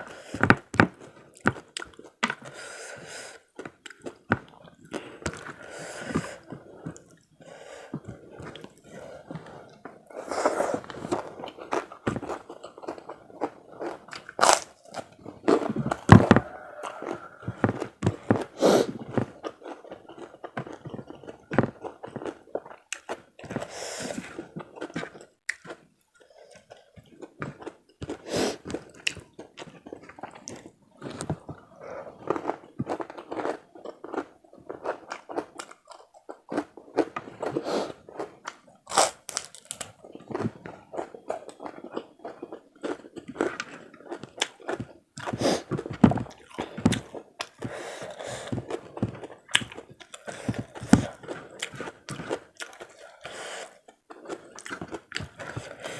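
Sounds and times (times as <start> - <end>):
person chewing and crunching food: 0.0 - 55.9.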